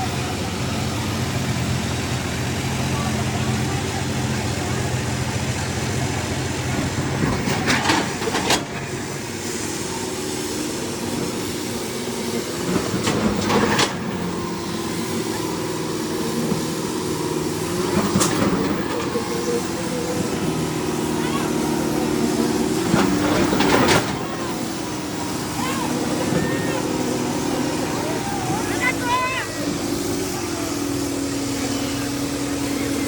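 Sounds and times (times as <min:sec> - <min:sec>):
diesel tractor engines running: 0:00.0 - 0:33.0.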